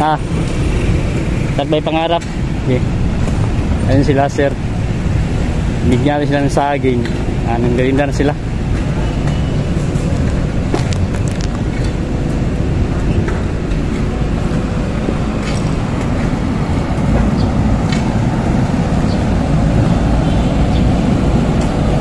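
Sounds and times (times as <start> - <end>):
heavy diesel engine rumbling: 0.0 - 22.0.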